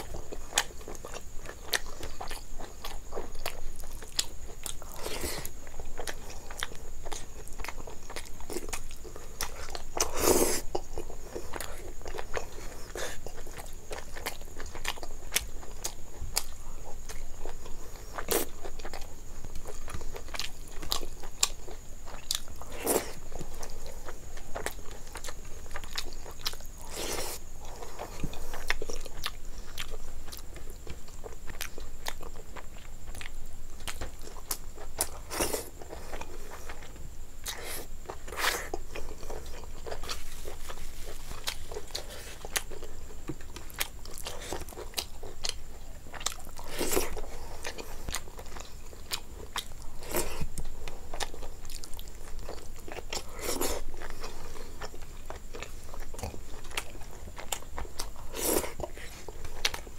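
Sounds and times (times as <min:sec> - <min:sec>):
person chewing: 0:00.0 - 0:59.9.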